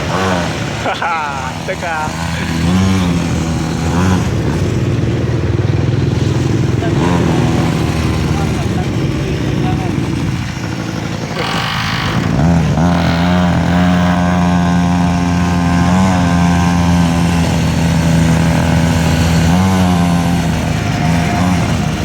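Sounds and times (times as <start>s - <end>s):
mini bike engine running: 0.0s - 22.0s.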